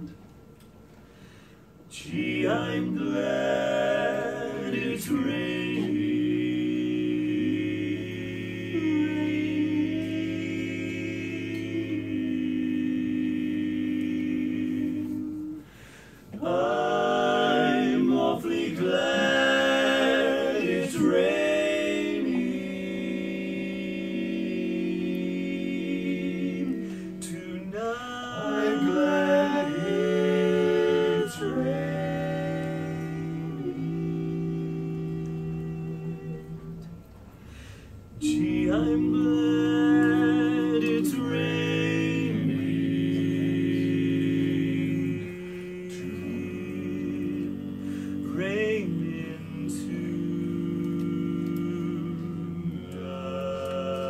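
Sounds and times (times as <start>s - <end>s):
male quartet singing a cappella: 1.8s - 54.0s.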